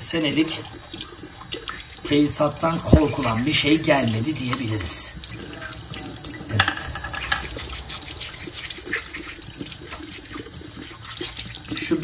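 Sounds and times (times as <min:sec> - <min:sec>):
tap water running into sink: 0:00.0 - 0:12.0
toothbrush scrubbing metal filter: 0:01.8 - 0:12.0.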